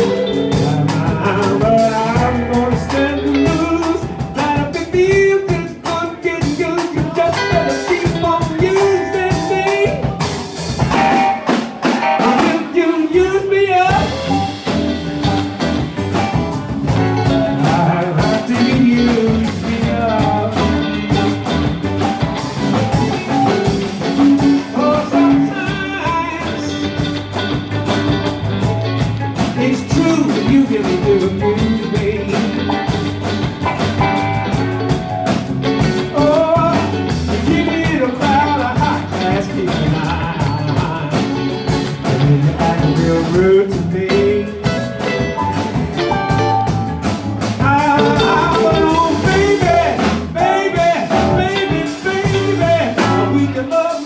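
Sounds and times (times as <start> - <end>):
man singing: 0.0 - 14.7, 16.9 - 21.5, 22.7 - 27.5, 29.4 - 33.3, 35.9 - 45.3, 47.4 - 54.0
live blues band playing: 0.0 - 54.0.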